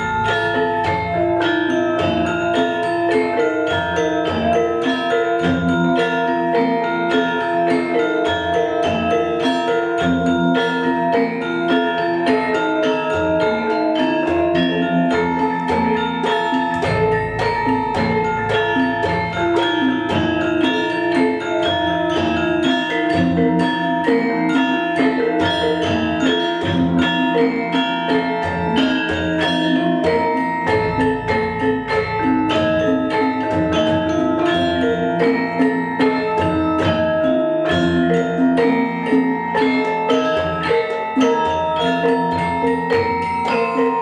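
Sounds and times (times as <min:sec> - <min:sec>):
metallophones struck: 0:00.0 - 0:44.0.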